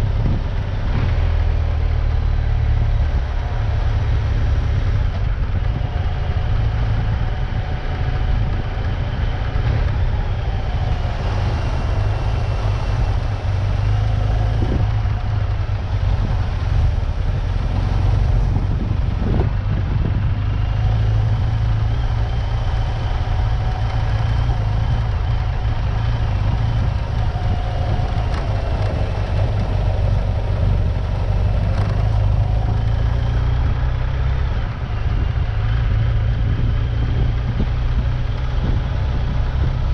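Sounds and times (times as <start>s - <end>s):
vehicle engine driving: 0.0s - 39.9s.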